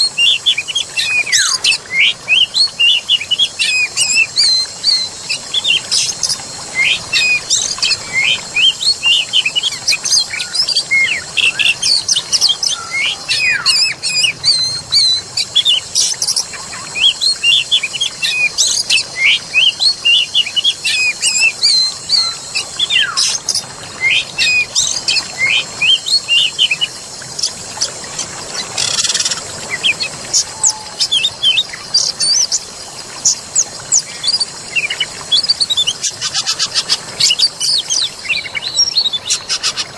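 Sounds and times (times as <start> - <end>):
harsh noisy bird call: 0.0 - 39.9
songbirds chirping and singing: 0.0 - 39.9.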